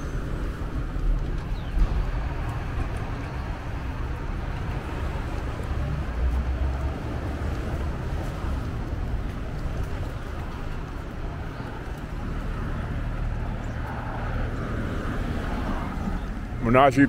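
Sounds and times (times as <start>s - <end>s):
cars and trucks passing: 0.0s - 17.0s.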